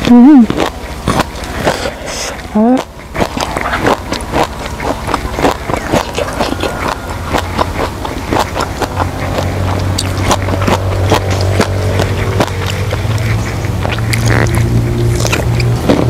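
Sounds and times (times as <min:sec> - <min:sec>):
low engine hum: 0:00.0 - 0:16.0
wet chewing and crunching: 0:00.0 - 0:16.0.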